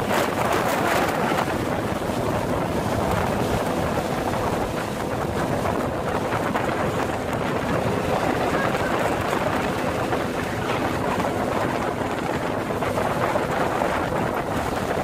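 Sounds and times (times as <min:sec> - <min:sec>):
outboard engine drone: 0:00.0 - 0:15.0
water rushing off hull: 0:00.0 - 0:15.0
wind buffeting microphone: 0:00.0 - 0:15.0.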